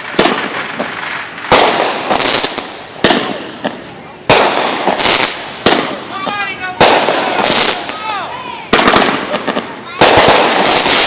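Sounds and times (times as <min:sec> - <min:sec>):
fireworks bangs: 0:00.0 - 0:11.0
fireworks hiss and crackle: 0:00.0 - 0:11.0
small fireworks pops: 0:00.0 - 0:11.0.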